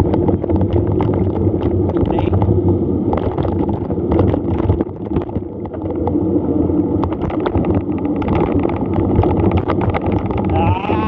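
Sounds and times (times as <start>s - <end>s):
bike rattling and clicking: 0.0s - 11.0s
wind rushing over microphone: 0.0s - 11.0s.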